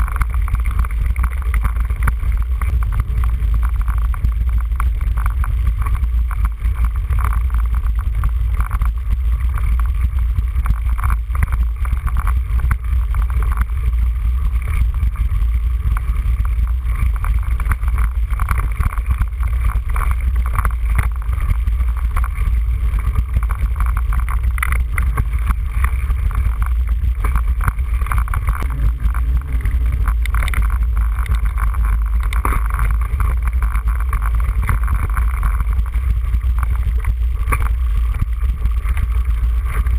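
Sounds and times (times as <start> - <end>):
mountain bike rumbling and rattling: 0.0 - 39.9
wind on microphone: 0.0 - 39.9.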